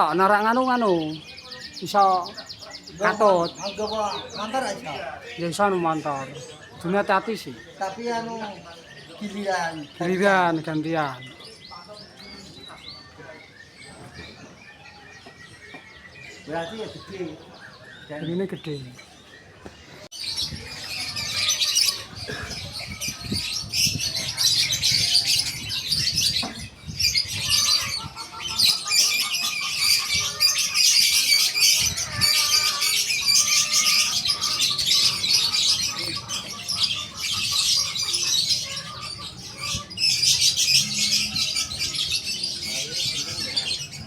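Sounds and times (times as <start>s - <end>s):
caged birds chirping: 0.0s - 44.0s.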